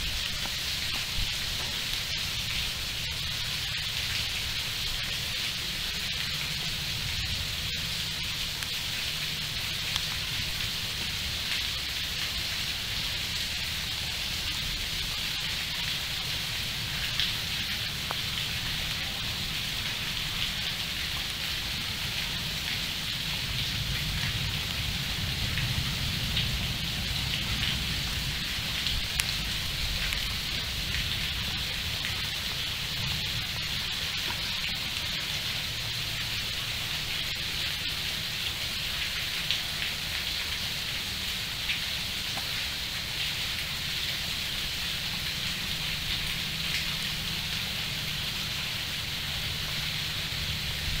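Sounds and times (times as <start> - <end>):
sharp raindrop ticks: 0.0 - 51.0
steady rain hiss: 0.0 - 51.0.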